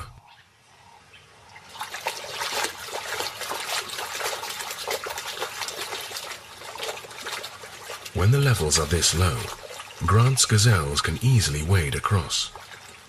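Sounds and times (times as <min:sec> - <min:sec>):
shallow river water splashing: 0:01.4 - 0:13.0.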